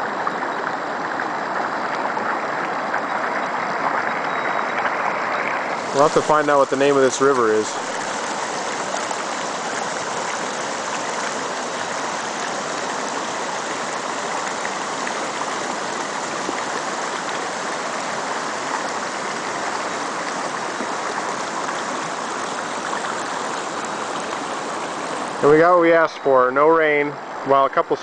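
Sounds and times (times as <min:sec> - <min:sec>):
water rushing over rocks: 0:00.0 - 0:28.0.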